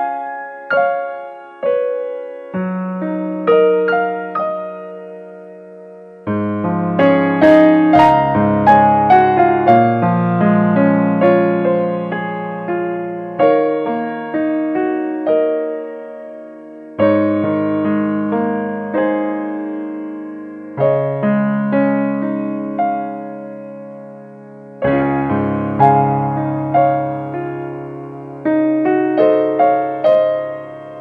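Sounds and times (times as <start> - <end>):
slow piano chords and melody: 0.0 - 31.0.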